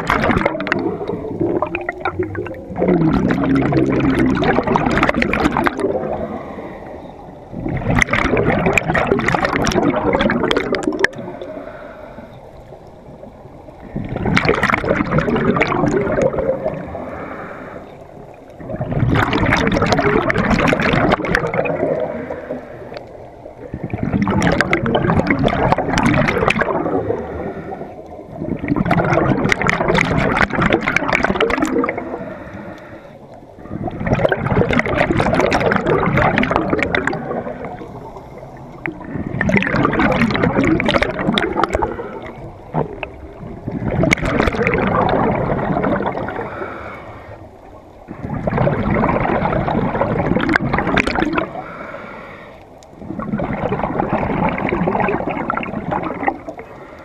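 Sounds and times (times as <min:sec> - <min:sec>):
underwater regulator bubbling: 0:00.0 - 0:11.8, 0:12.8 - 0:57.0.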